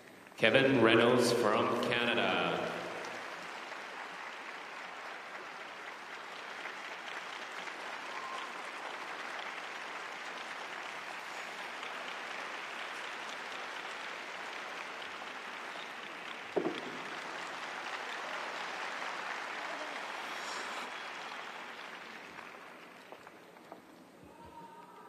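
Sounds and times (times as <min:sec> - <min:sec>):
crowd applauding: 0:01.5 - 0:25.0.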